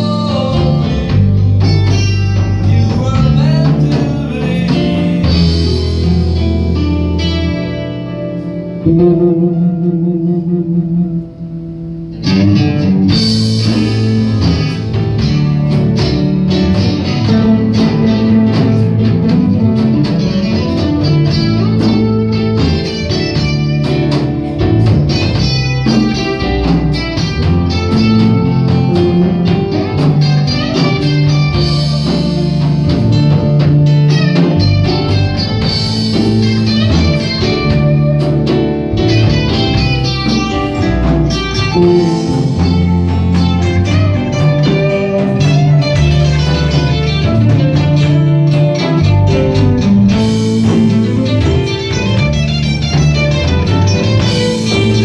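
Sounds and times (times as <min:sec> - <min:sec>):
acoustic guitar: 0:00.0 - 0:55.0
keyboard playing: 0:00.0 - 0:55.0.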